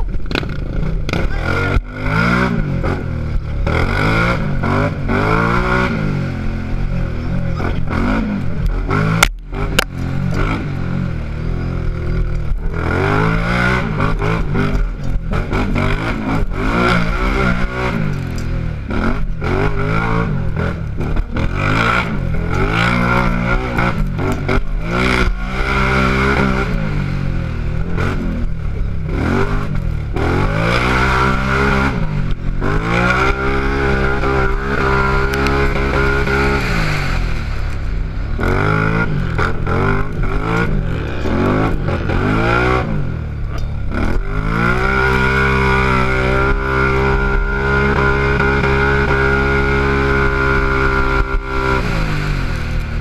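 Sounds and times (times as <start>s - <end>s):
quad engine revving: 0.0s - 53.0s
quad rattling over rough ground: 0.0s - 53.0s.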